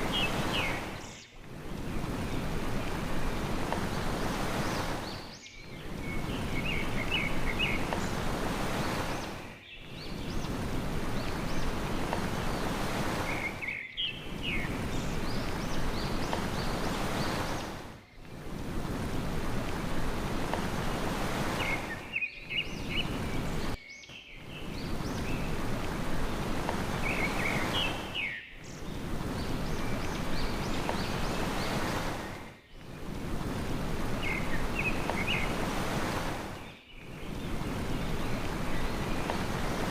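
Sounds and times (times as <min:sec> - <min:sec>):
sea surf washing: 0:00.0 - 0:23.8, 0:24.4 - 0:39.9
small birds chirping: 0:00.0 - 0:39.9.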